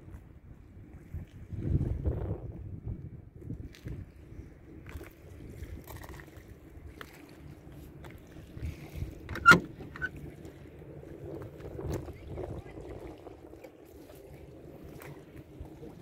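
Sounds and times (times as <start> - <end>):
wind buffeting microphone: 0.0 - 7.6, 8.2 - 16.0.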